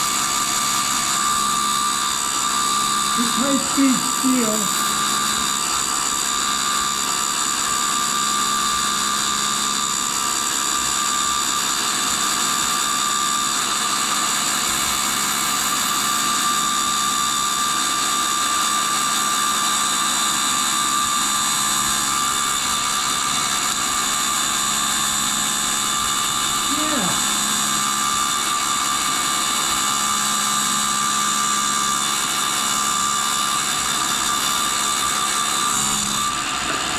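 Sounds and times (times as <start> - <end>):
grinder whining and grinding metal: 0.0 - 36.9.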